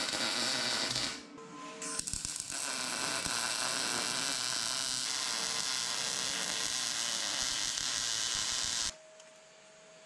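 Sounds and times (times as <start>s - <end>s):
welding arc sizzling and crackling: 0.0s - 1.2s, 1.8s - 9.0s.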